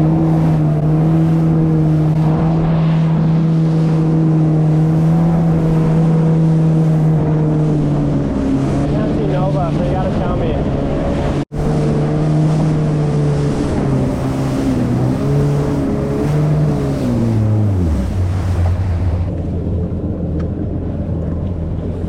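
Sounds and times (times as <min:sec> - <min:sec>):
jet ski engine running: 0:00.0 - 0:22.0
wind on microphone: 0:00.0 - 0:22.0.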